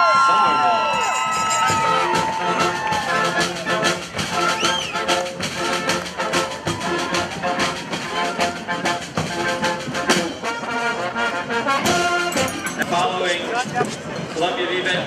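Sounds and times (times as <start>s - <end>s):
brass band playing: 1.2s - 13.6s.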